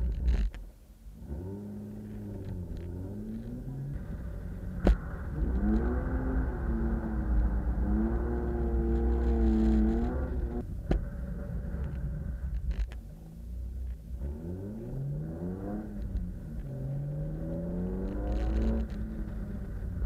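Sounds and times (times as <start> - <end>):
car engine revving: 1.1 - 20.0.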